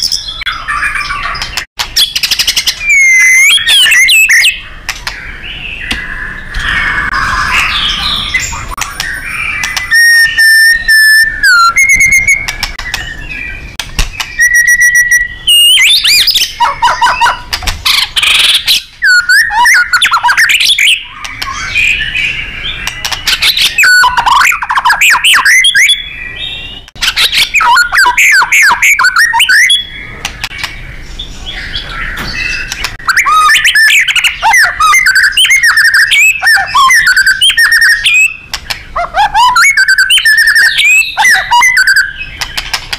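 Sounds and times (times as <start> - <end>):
songbird singing whistled phrases: 0.0 - 30.8, 31.4 - 42.5.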